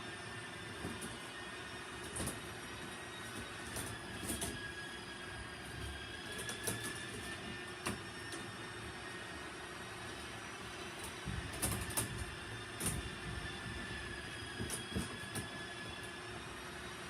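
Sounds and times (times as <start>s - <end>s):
tape unwinding squeal: 0.0s - 17.0s.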